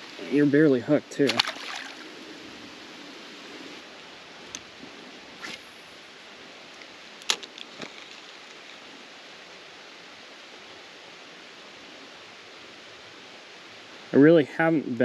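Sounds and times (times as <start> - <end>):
flowing creek water: 0.0 - 14.2.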